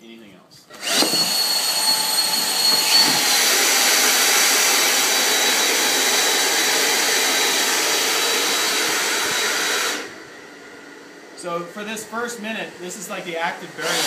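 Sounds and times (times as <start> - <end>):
fan rushing air with whine: 0.7 - 14.0.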